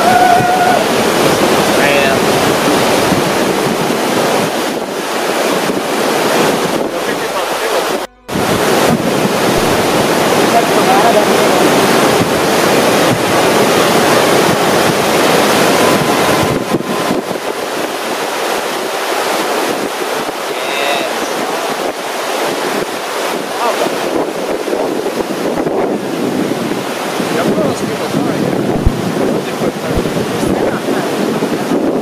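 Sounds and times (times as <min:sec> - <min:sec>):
whitewater rushing: 0:00.0 - 0:32.0
wind buffeting microphone: 0:00.0 - 0:32.0.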